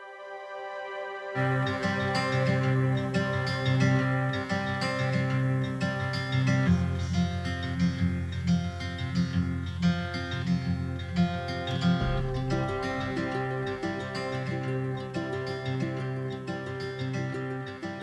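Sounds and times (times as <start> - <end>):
acoustic guitar chords: 1.4 - 18.0.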